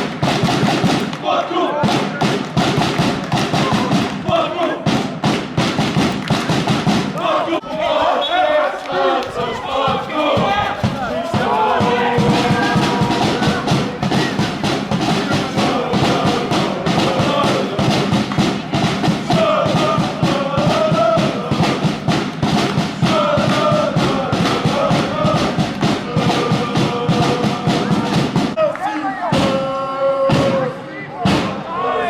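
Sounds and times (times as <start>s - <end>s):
drum beaten in rhythm: 0.0s - 8.4s, 9.0s - 28.6s, 29.3s - 31.7s
crowd chanting and singing: 0.0s - 32.0s.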